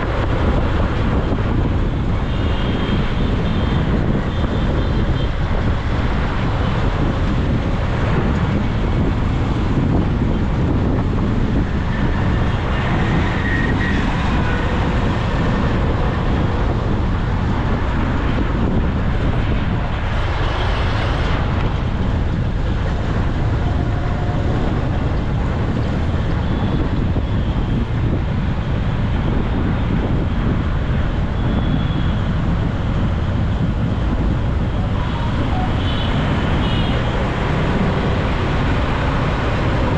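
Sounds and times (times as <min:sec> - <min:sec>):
traffic noise: 0:00.0 - 0:39.9
wind on microphone: 0:00.0 - 0:39.9.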